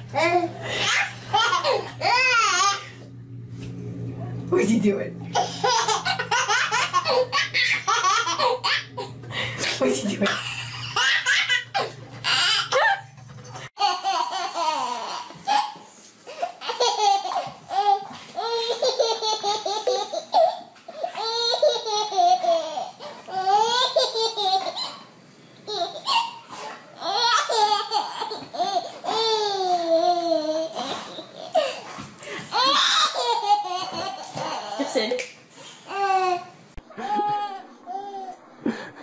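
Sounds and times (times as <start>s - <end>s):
baby laughing: 0.2s - 3.0s, 5.3s - 9.1s, 10.2s - 13.1s, 13.8s - 25.1s, 25.7s - 31.9s, 32.5s - 35.1s, 35.9s - 38.9s.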